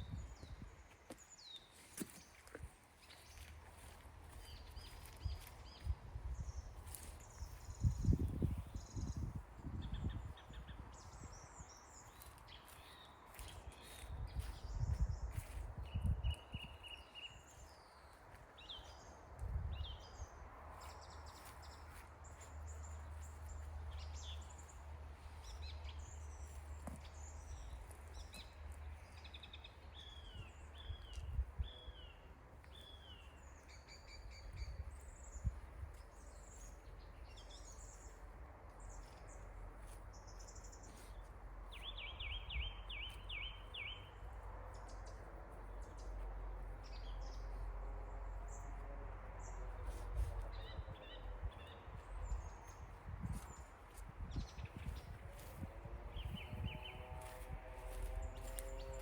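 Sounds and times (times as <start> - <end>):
songbirds chirping and singing: 0.0 - 47.7, 49.6 - 59.0.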